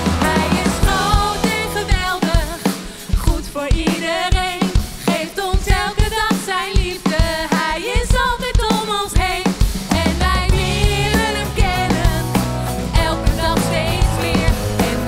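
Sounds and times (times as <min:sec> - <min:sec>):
person singing: 0:00.0 - 0:07.8, 0:09.9 - 0:12.4, 0:13.0 - 0:15.0
drum kit beat: 0:00.0 - 0:15.0.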